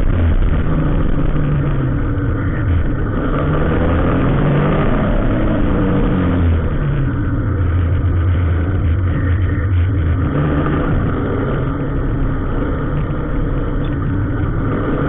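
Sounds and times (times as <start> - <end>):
vehicle engine low hum: 0.0 - 15.0.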